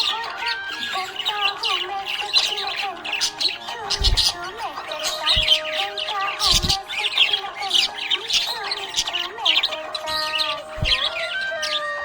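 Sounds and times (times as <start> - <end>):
background music: 0.0 - 12.0
budgerigar chirping and chattering: 0.0 - 12.0.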